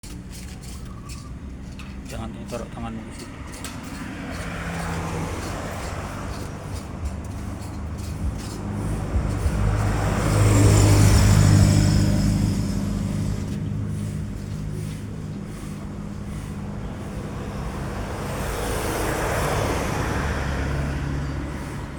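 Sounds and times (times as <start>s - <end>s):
motor vehicle passing by: 0.0s - 21.9s.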